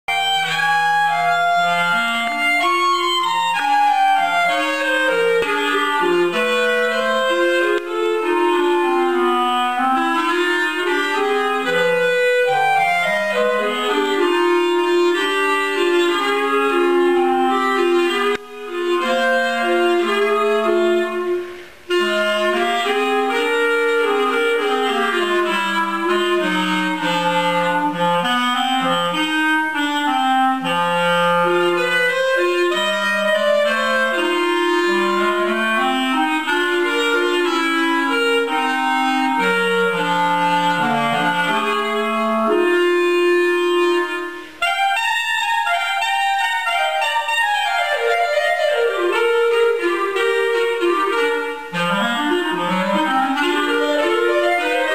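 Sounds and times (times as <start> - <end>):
clarinet duet: 0.0 - 54.9.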